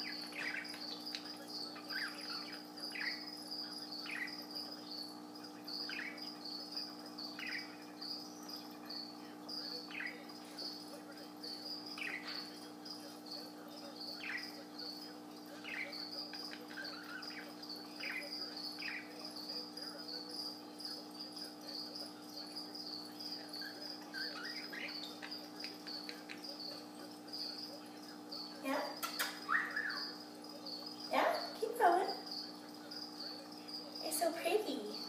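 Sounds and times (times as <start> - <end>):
budgie chirping: 0.0 - 35.0.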